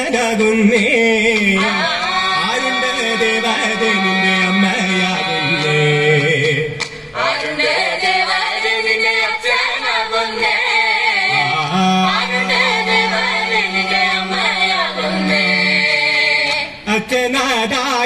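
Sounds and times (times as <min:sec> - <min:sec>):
group singing folk song: 0:00.0 - 0:18.0.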